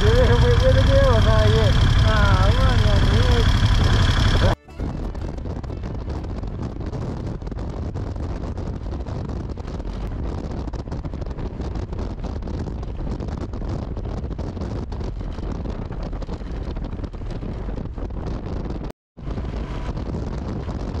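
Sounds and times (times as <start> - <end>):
motorcycle running: 0.0 - 21.0
wind buffeting microphone: 0.0 - 21.0.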